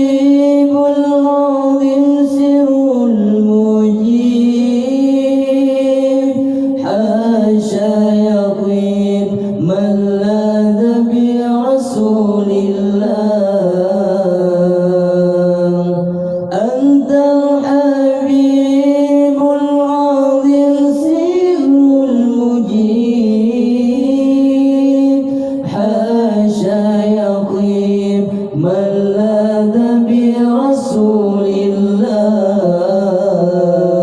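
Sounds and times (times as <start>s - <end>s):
solo voice singing devotional song: 0.0s - 34.0s.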